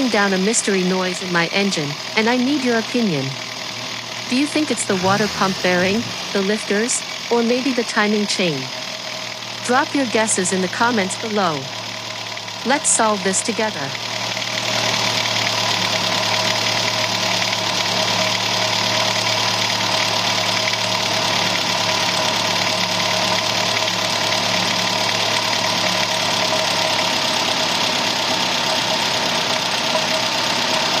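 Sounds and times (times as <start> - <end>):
car engine idling: 0.0 - 31.0
fast clicking from engine: 0.0 - 31.0.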